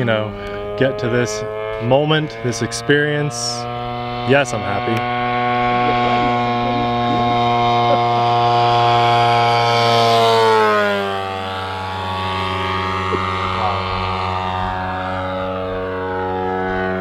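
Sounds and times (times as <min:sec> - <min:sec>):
model plane engine flying past: 0:00.0 - 0:17.0.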